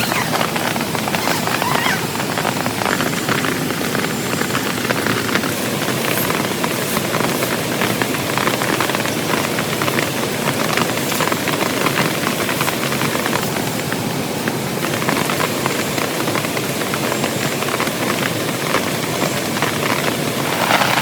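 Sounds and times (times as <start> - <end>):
heavy rain falling: 0.0 - 21.0
raindrops hitting close by: 0.0 - 21.0.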